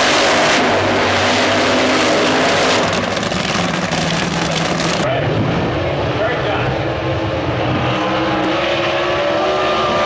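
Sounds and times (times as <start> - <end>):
loud drag racing engine: 0.0 - 10.0.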